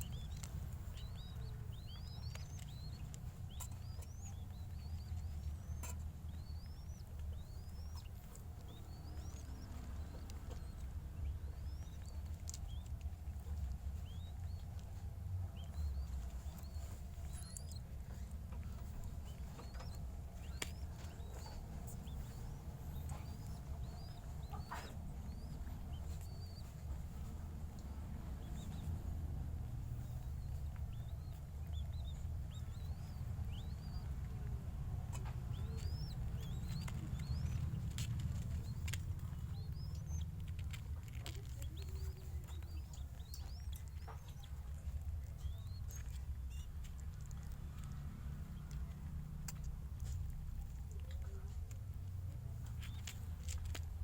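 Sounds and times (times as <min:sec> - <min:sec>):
bird chicks squeaking: 0:00.0 - 0:54.0.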